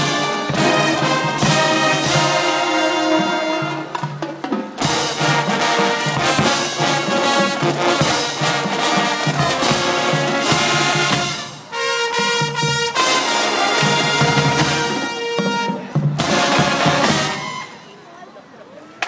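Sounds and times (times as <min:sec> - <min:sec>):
marching drums: 0:00.0 - 0:17.8
brass horns: 0:00.0 - 0:18.0.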